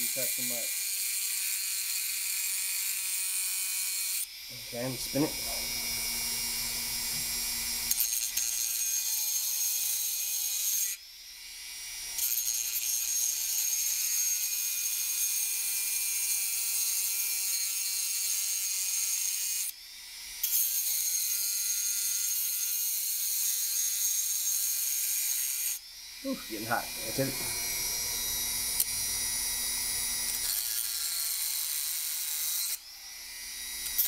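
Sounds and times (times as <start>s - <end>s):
rotary tool grinding metal: 0.0s - 34.0s.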